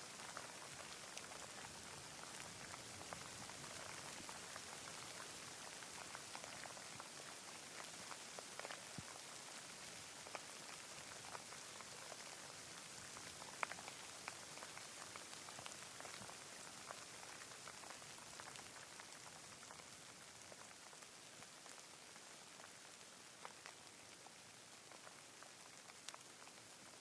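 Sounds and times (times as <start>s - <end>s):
faint steady rain: 0.0s - 27.0s
raindrops ticking: 0.0s - 27.0s.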